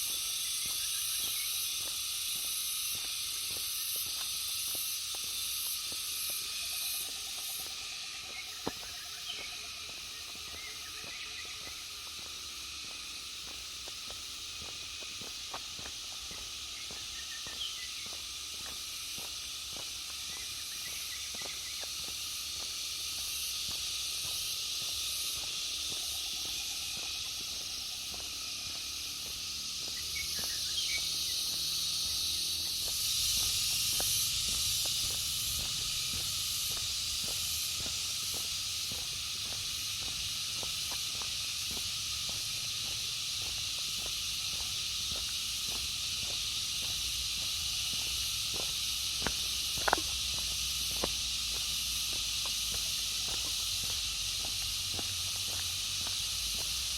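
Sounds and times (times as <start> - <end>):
footsteps on road: 0.0 - 56.9
forest insects buzzing: 0.0 - 56.9.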